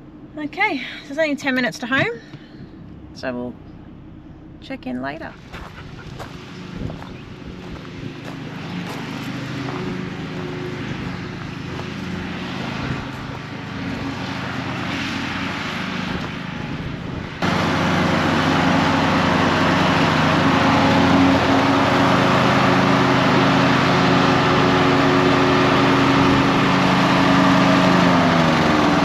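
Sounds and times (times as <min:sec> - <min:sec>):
engine running steadily: 0:00.0 - 0:29.0
loud rough engine: 0:00.0 - 0:29.0.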